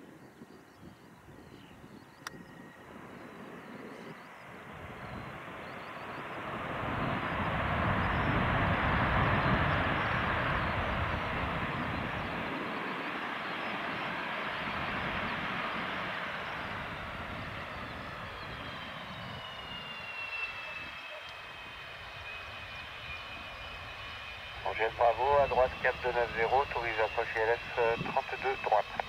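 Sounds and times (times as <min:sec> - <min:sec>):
high turbofan whine: 0:01.2 - 0:29.0
jet engines rushing: 0:01.8 - 0:29.0.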